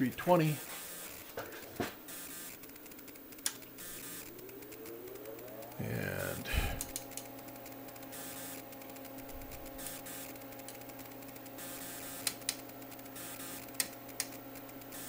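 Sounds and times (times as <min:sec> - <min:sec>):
steady instrument hum: 0:00.0 - 0:15.0.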